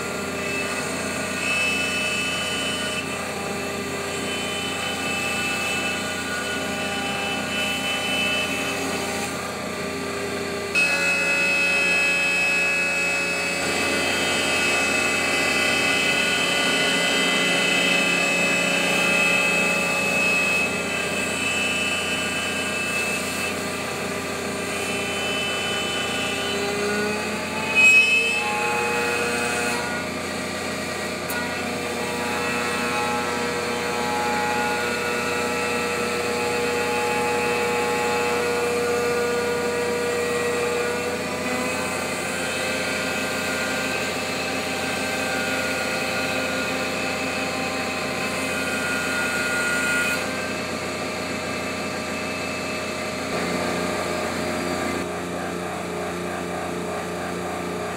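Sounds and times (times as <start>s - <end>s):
bit cutting wood: 0.0s - 57.9s
router spindle whine: 0.0s - 57.9s.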